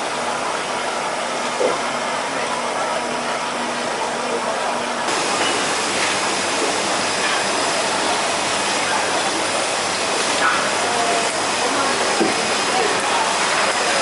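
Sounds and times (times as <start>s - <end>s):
running and bubbling water: 0.0s - 14.0s.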